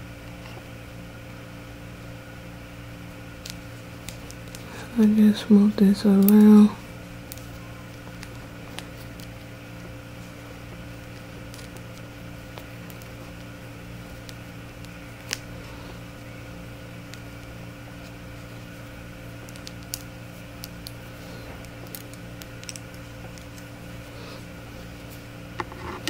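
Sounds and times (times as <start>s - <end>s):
electrical hum of appliance: 0.0s - 26.0s.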